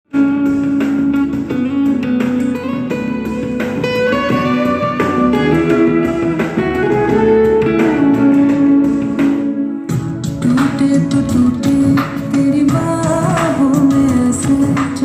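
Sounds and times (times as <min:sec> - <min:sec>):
guitar music through speaker: 0:00.1 - 0:15.0.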